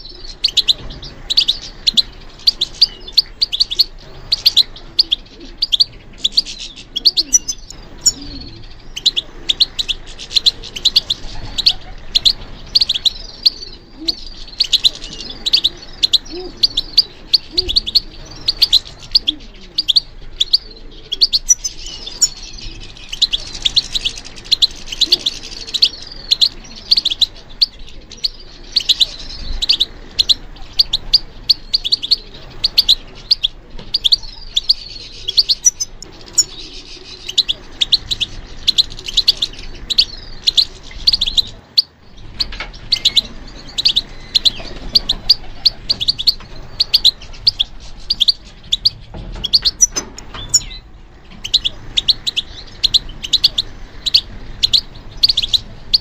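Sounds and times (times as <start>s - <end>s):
goldfinch singing: 0.0s - 56.0s.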